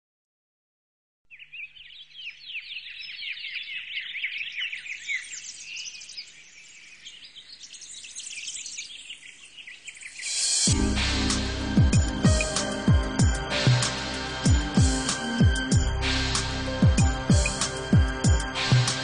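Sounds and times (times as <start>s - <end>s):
songbirds chirping: 1.3s - 19.0s.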